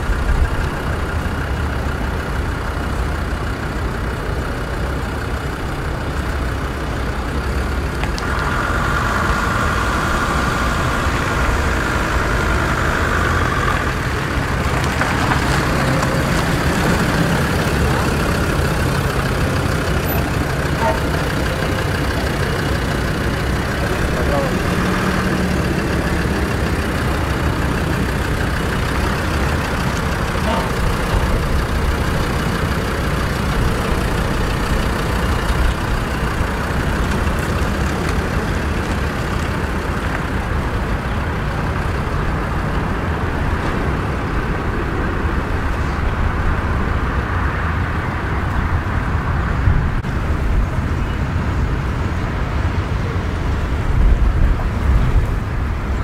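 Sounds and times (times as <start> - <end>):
low engine rumble: 0.0 - 56.0
road or wind noise hiss: 4.3 - 56.0.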